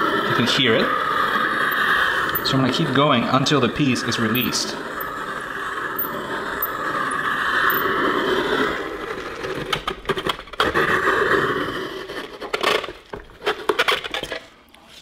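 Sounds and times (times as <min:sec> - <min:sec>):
circle cutter blade scraping foam: 0:00.0 - 0:12.8.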